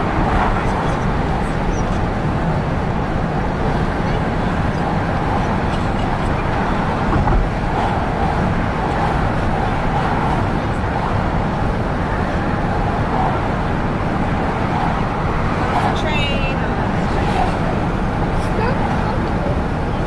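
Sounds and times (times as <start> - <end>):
car engine cruising: 0.0 - 20.0
passing traffic: 0.0 - 20.0
tyres on road: 0.0 - 20.0.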